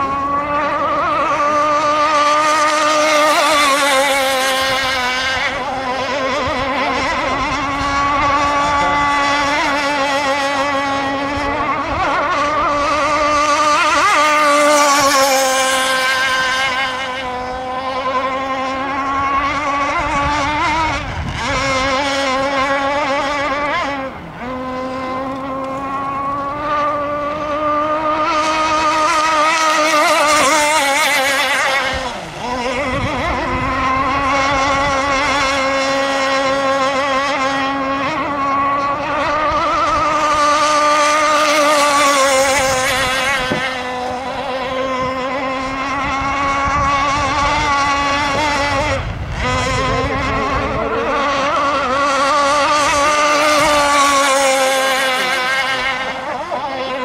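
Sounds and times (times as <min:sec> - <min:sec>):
model boat engine whining: 0:00.0 - 0:57.0.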